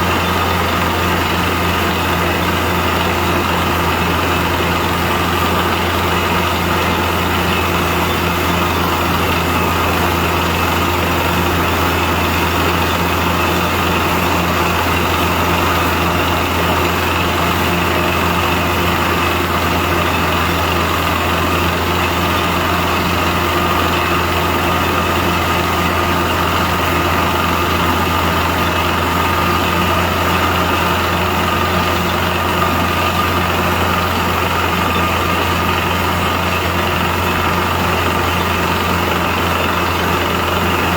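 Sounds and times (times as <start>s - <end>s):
compressor humming: 0.0s - 40.9s.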